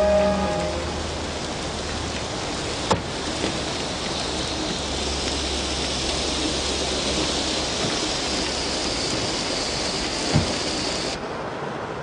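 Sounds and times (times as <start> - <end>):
car engine rumble: 0.0 - 12.0
heavy rain pouring: 0.0 - 12.0.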